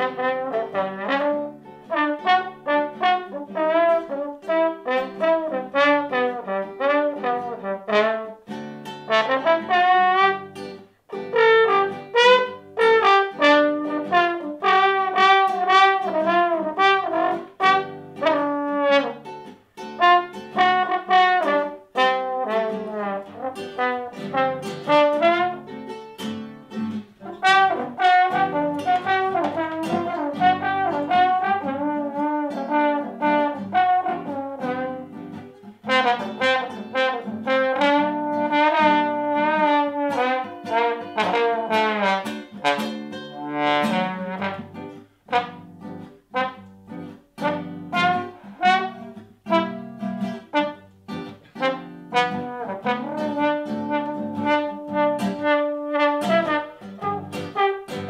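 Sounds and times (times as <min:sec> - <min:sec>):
trombone sliding melody: 0:00.0 - 0:26.0, 0:26.9 - 0:58.0
plucked classical guitar: 0:00.0 - 0:58.0.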